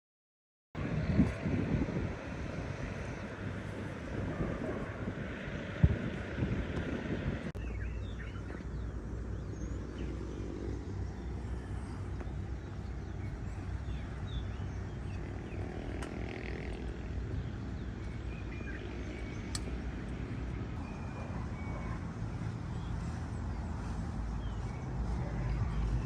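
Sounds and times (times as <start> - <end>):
steady low rumble: 0.8 - 26.0.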